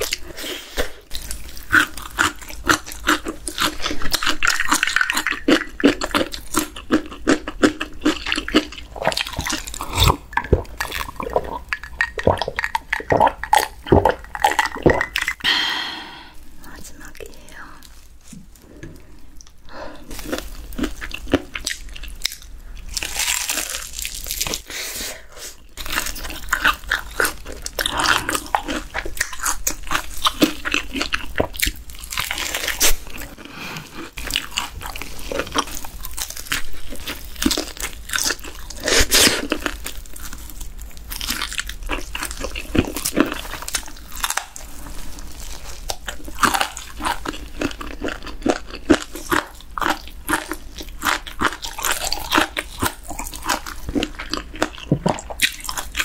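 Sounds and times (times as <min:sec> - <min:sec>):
chewing: 0:00.0 - 0:15.4, 0:16.6 - 0:24.6, 0:25.8 - 0:56.0
crunching fried chicken: 0:00.0 - 0:15.4, 0:20.1 - 0:24.7, 0:25.8 - 0:56.0.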